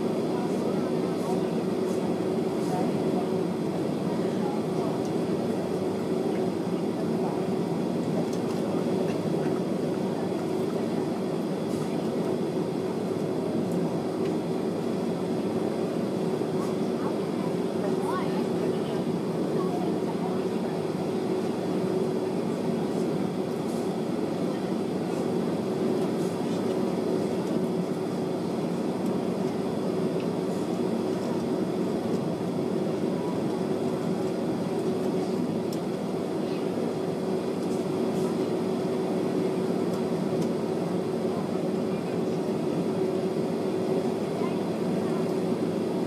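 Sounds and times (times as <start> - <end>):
jet engines droning: 0.0 - 46.0.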